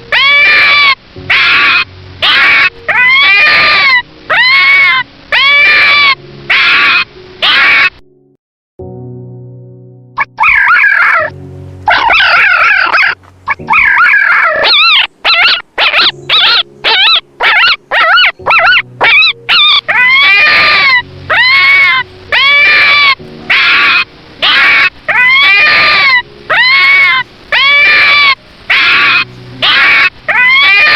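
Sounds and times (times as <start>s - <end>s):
faint background music: 0.0s - 8.0s, 10.2s - 30.9s
high-pitched animal cries: 0.1s - 8.0s, 10.2s - 11.3s, 11.9s - 30.9s.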